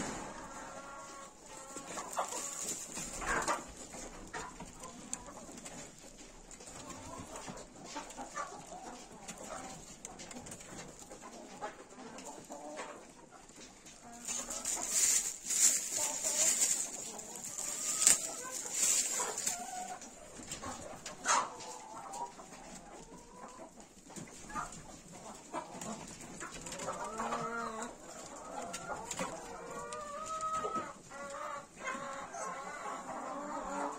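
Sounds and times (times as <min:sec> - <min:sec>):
hens clucking: 0:00.0 - 0:33.9.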